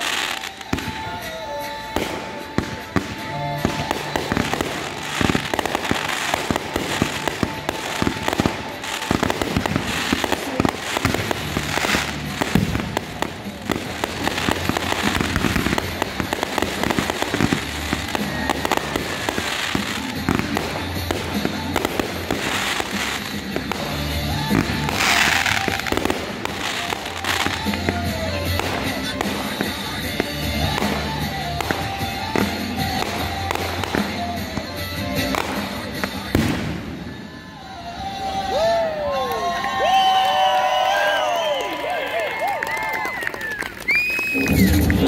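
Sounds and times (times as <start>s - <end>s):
fireworks bangs: 0.0s - 38.4s, 44.0s - 45.0s
fireworks crackling: 0.0s - 45.0s.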